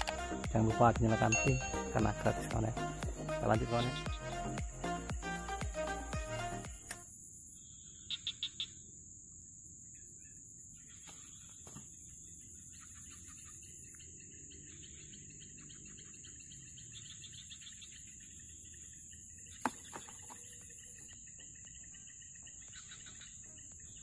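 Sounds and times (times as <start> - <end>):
birds twittering: 0.0 - 5.0, 7.2 - 9.0, 9.7 - 24.0.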